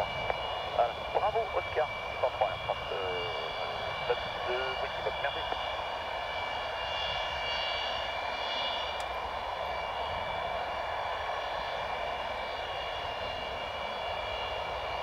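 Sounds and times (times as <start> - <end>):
high-pitched engine whine: 0.0 - 15.0
jet engines running: 0.0 - 15.0.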